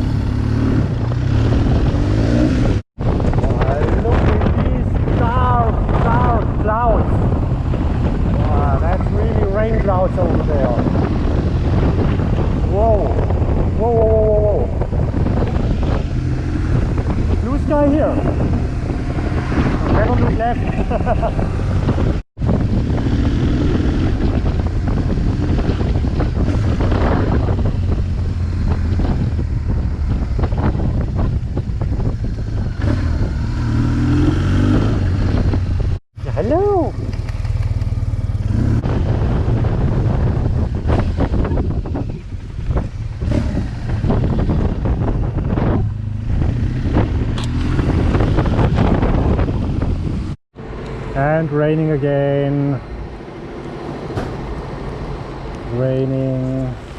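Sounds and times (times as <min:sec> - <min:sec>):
motorcycle engine drone: 0:00.0 - 0:56.9
road noise: 0:00.0 - 0:56.9
wind rushing over microphone: 0:00.0 - 0:56.9.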